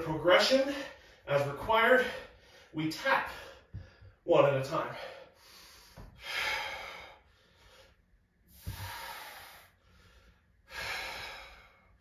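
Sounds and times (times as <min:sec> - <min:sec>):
man breathing hard: 0:00.7 - 0:01.3, 0:02.0 - 0:04.2, 0:04.9 - 0:12.0.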